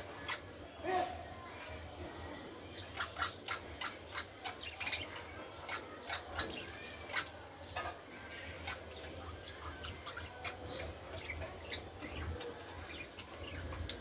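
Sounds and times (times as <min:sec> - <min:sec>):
budgerigars chirping: 0:00.0 - 0:00.6, 0:02.7 - 0:14.0.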